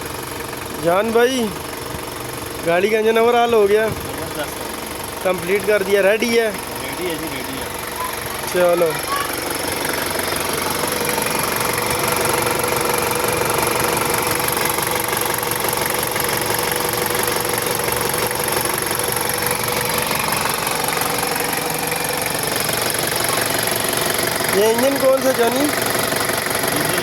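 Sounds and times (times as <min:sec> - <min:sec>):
diesel engine clattering: 0:00.0 - 0:27.0.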